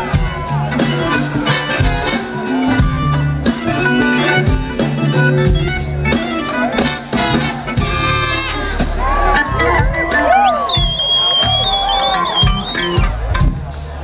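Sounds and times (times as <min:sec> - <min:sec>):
live blues-rock band: 0:00.0 - 0:14.0.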